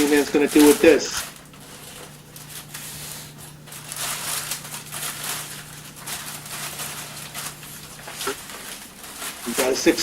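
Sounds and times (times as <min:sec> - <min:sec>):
low electrical hum: 0:00.0 - 0:10.0
sandwich wrapper crinkling: 0:00.0 - 0:10.0.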